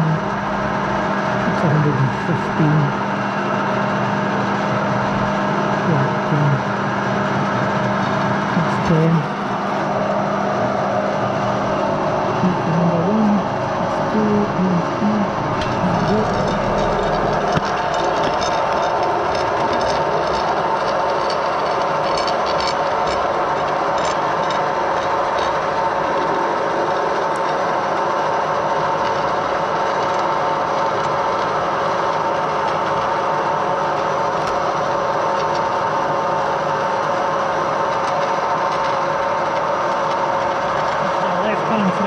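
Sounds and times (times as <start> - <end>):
metal lathe running: 0.0 - 42.0
whine of machine drive: 0.0 - 42.0.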